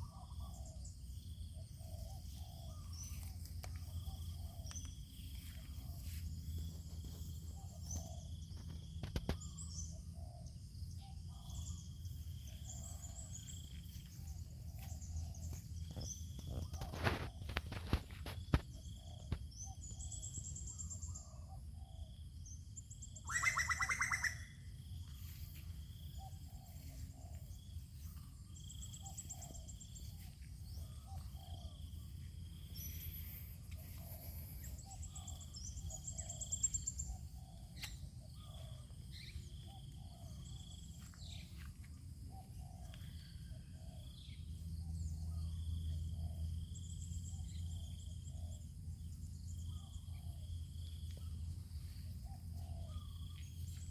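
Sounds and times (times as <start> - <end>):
birds calling and chirping: 0.0 - 53.9
steady low rumble: 0.6 - 22.4, 24.6 - 47.8.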